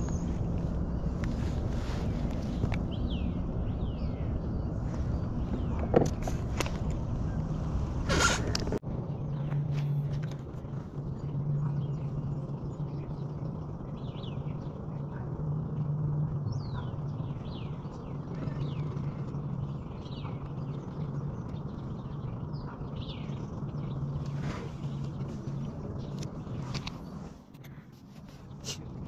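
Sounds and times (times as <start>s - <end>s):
electric motor hum: 0.0s - 27.6s
small birds chirping: 0.0s - 29.0s.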